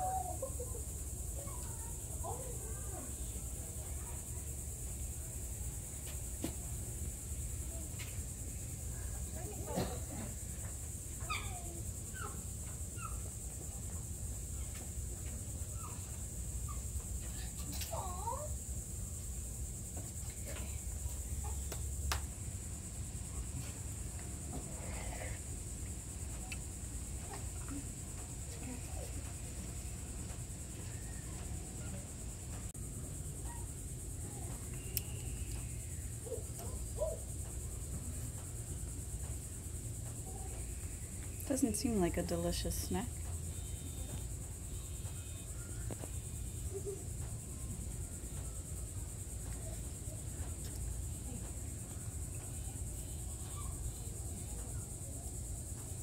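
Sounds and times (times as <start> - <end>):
insects droning: 0.0 - 56.0
low outdoor rumble: 0.0 - 56.0.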